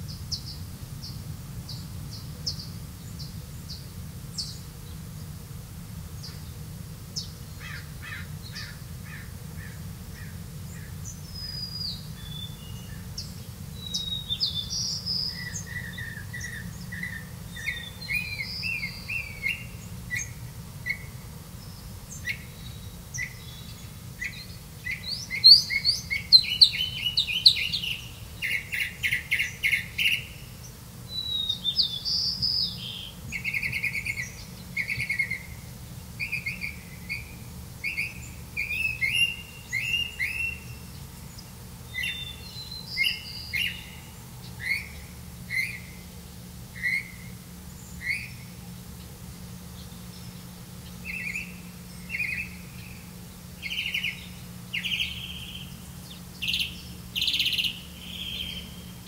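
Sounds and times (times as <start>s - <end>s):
birds chirping and trilling: 7.2s - 59.0s.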